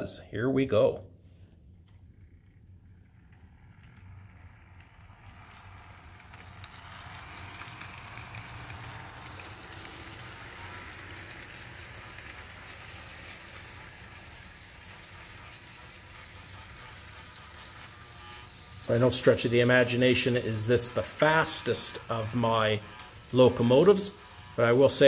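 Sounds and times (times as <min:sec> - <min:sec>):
model train motor whirring: 0:01.8 - 0:25.0
wheels clicking over rails: 0:01.8 - 0:25.0.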